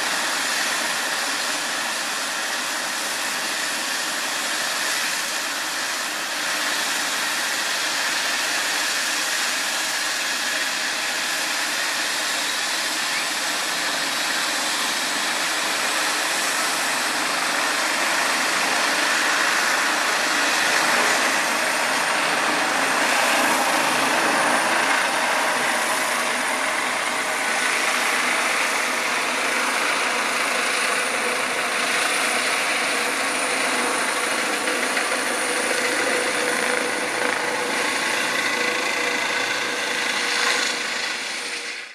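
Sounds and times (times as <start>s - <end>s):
helicopter rotor rush: 0.0s - 41.9s
high turbine whine: 0.0s - 41.9s.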